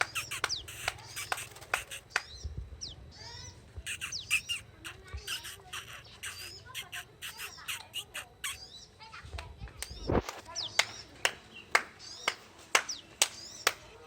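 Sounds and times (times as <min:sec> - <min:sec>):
bird chirping rapidly: 0:00.0 - 0:09.2, 0:09.8 - 0:13.8.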